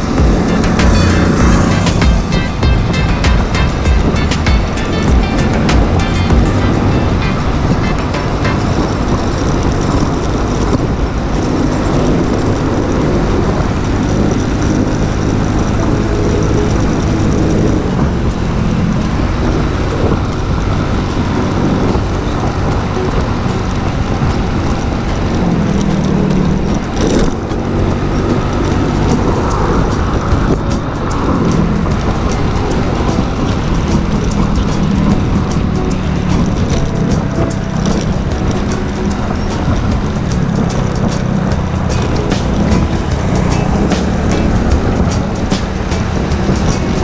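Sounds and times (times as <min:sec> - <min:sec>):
passing traffic: 0:00.0 - 0:47.0
scooter engine running: 0:00.0 - 0:47.0
wind on microphone: 0:00.0 - 0:47.0.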